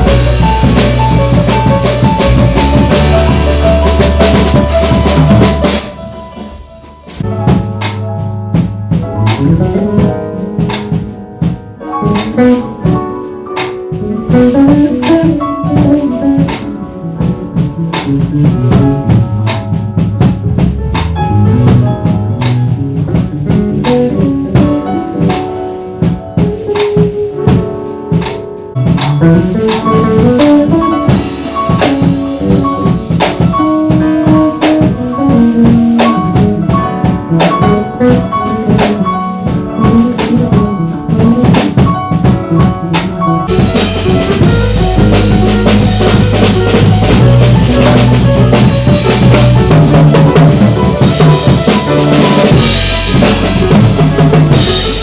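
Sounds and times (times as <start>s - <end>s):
bass line: 0.0s - 10.7s, 14.0s - 25.1s, 28.8s - 55.0s
drums keeping time: 0.0s - 55.0s
jazz piano: 0.0s - 55.0s.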